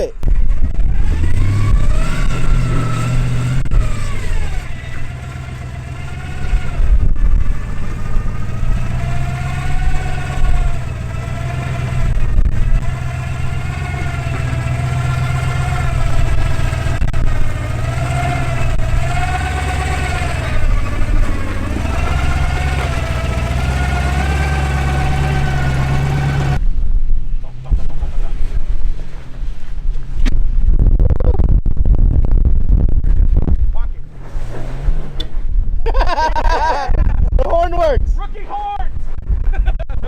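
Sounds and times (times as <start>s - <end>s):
truck engine revving: 0.0s - 30.5s, 33.0s - 37.7s.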